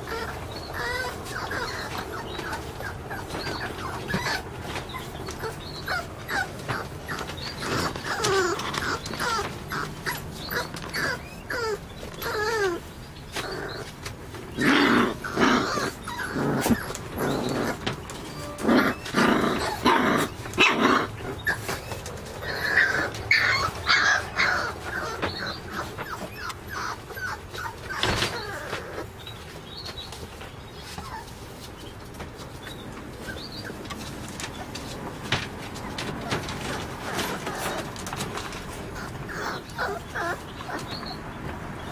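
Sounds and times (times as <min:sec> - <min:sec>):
puppy barking and growling: 0:00.0 - 0:29.2, 0:35.8 - 0:41.2
puppy yipping and whining: 0:00.0 - 0:30.0, 0:30.8 - 0:31.7, 0:35.8 - 0:41.2.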